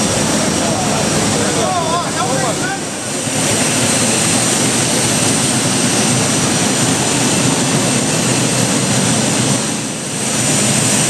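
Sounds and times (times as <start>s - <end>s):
jet airliner cabin noise: 0.0s - 11.0s.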